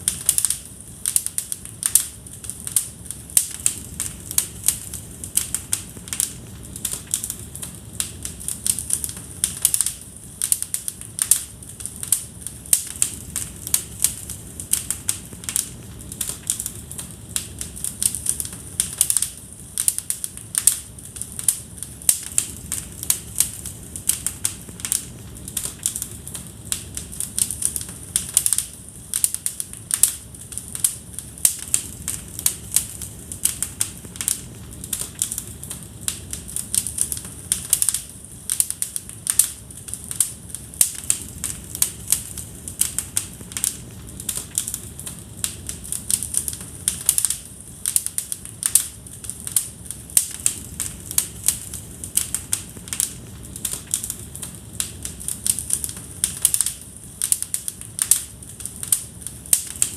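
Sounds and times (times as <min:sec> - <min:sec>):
low flame noise: 0:00.0 - 0:59.9
wood fire crackling and popping: 0:00.0 - 0:59.9.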